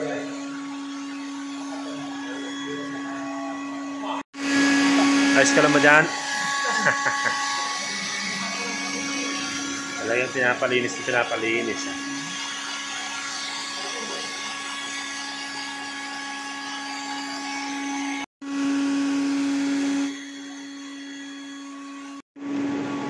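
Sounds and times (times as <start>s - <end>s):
industrial vacuum hum: 0.0s - 23.0s.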